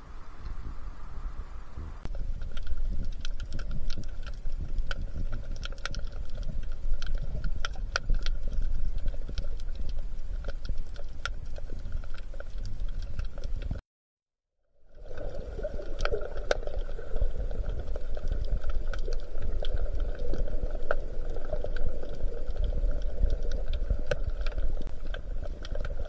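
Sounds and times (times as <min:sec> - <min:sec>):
faint steady hum: 0:00.0 - 0:13.8, 0:14.8 - 0:26.0
underwater rumble of moving water: 0:00.0 - 0:13.8, 0:14.7 - 0:26.0
sharp clicks and crackles: 0:02.0 - 0:13.8, 0:14.9 - 0:26.0.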